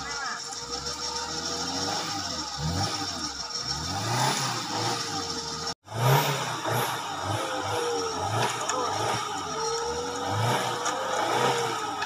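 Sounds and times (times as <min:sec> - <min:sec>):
small engine revving: 0:00.0 - 0:12.0.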